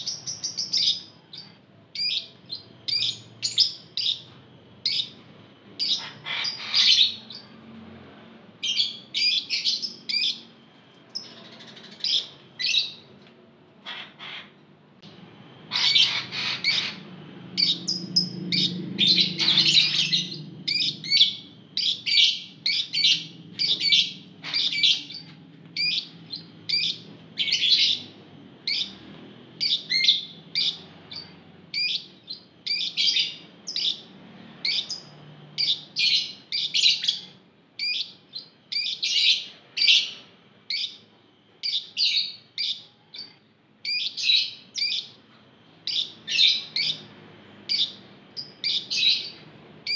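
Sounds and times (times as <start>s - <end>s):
lovebirds chirping: 0.0s - 13.1s, 15.7s - 41.0s, 41.6s - 49.9s.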